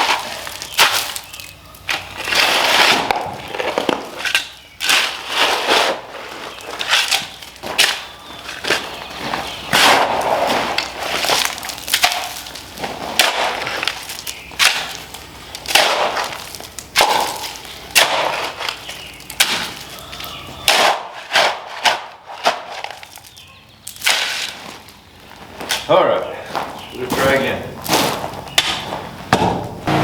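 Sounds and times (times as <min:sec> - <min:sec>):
digging into rocky soil: 0:00.0 - 0:25.9.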